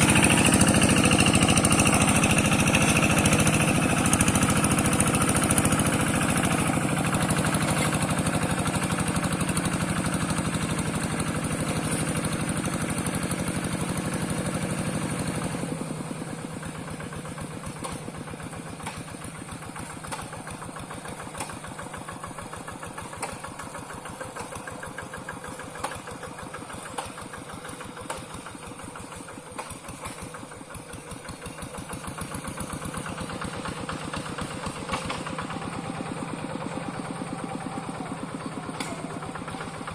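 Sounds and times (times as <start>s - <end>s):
diesel engine running and idling: 0.0s - 39.9s.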